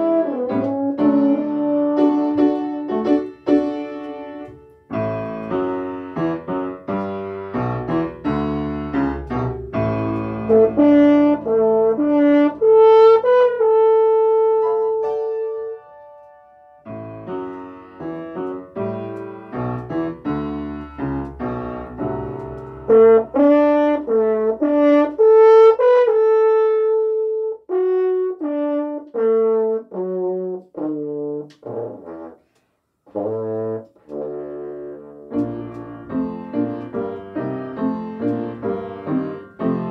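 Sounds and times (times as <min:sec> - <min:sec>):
french horn melody: 0:00.0 - 0:20.1, 0:20.7 - 0:32.5, 0:33.1 - 0:39.9
piano accompaniment: 0:00.0 - 0:32.4, 0:33.1 - 0:39.9.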